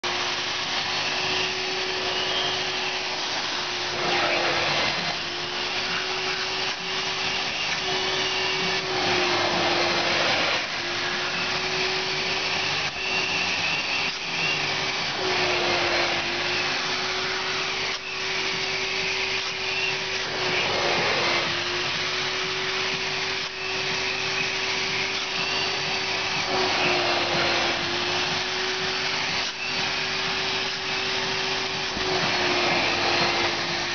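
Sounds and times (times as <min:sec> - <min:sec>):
vacuum motor humming: 0:00.0 - 0:33.9.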